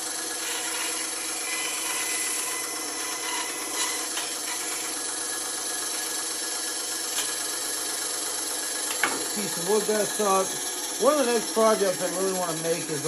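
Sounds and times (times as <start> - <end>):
bandsaw cutting wood: 0.0 - 13.0.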